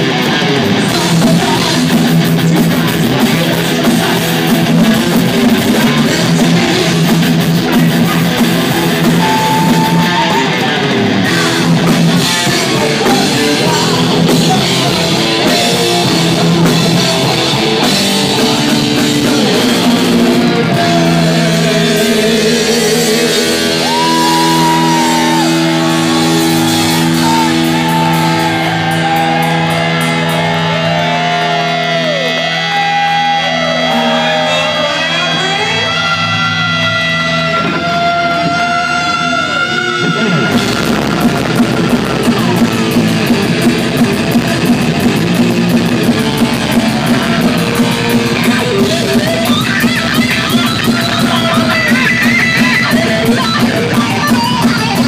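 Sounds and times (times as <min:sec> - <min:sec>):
bending guitar lead lines: 0:00.0 - 0:55.0
electric guitar chords: 0:00.0 - 0:55.0
rock band with drums: 0:00.0 - 0:55.0.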